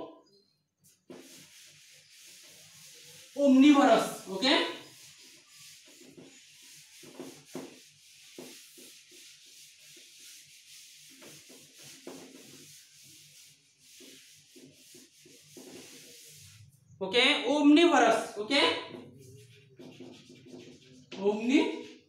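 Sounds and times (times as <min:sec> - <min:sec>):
duster scrubbing chalkboard: 0:00.8 - 0:16.8, 0:18.7 - 0:22.0.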